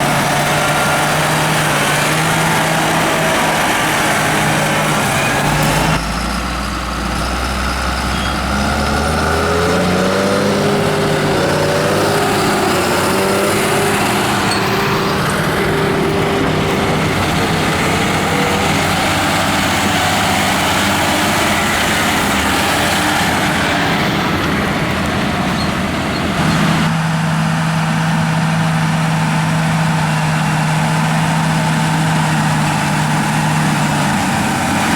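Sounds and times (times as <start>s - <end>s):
tractor diesel engines droning: 0.0s - 34.9s.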